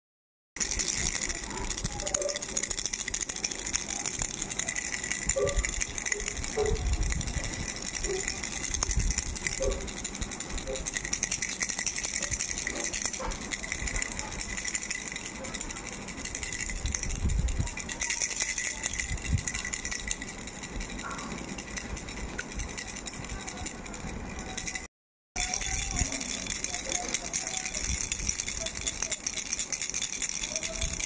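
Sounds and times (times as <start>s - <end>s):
plastic baby rattle shaking: 0.6s - 31.0s.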